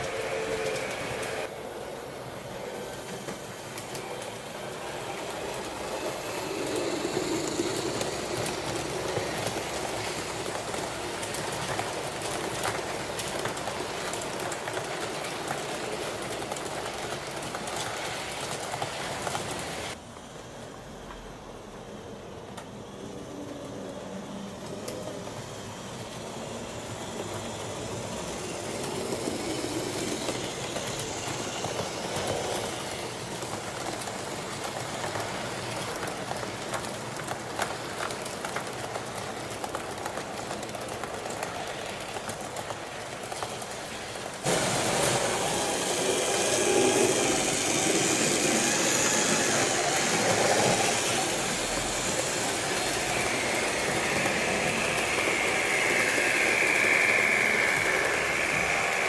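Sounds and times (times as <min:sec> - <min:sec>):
train rolling on track: 0:00.0 - 0:59.0.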